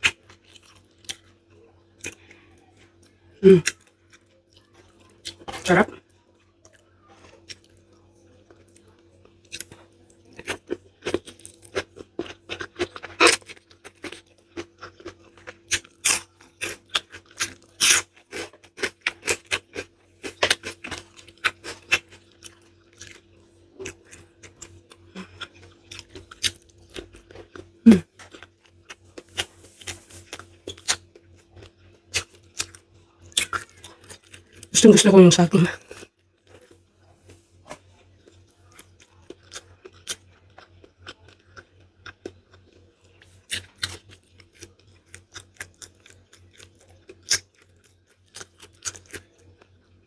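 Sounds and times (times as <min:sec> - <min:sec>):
mouth chewing food: 0:00.0 - 0:34.7, 0:35.7 - 0:50.0.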